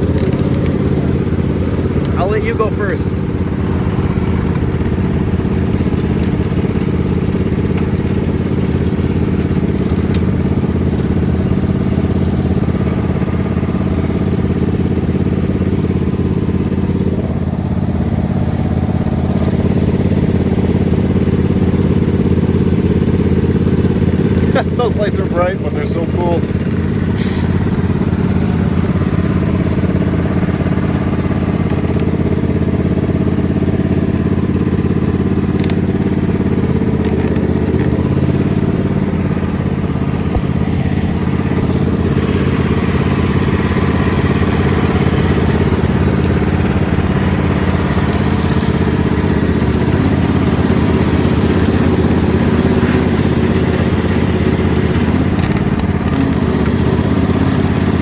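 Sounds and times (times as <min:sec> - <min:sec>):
ride-on lawn mower engine running: 0:00.0 - 0:58.0.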